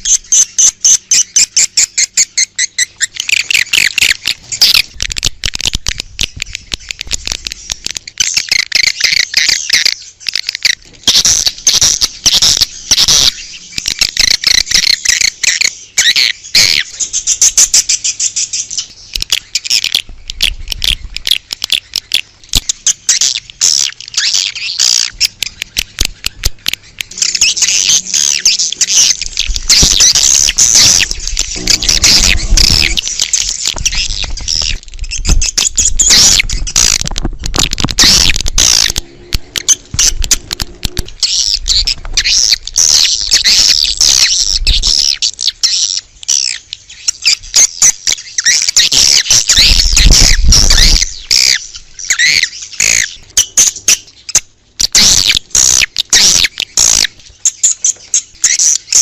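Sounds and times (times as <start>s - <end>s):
swiftlets chirping and twittering: 0.0s - 59.0s.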